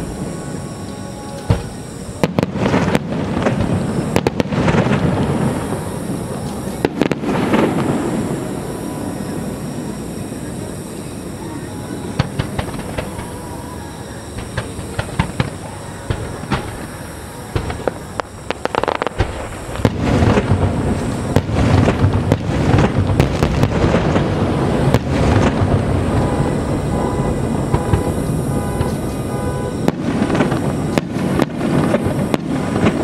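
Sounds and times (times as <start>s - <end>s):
fireworks bursting: 0.0s - 33.0s
fireworks crackling pops: 0.0s - 33.0s.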